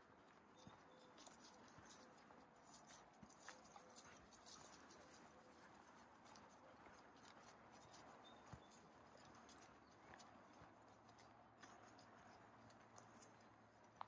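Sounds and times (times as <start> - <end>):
footsteps on dirt trail: 0.0 - 14.0.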